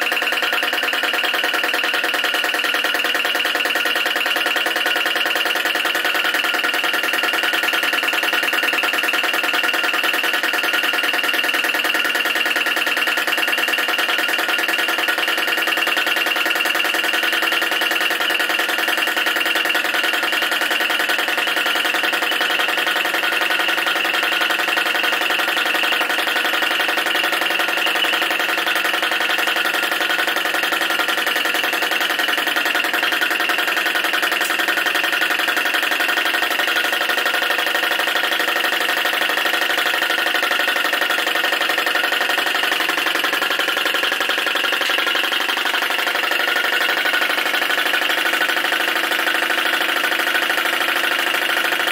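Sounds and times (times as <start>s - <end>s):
engine running with rapid clatter: 0.0s - 51.9s.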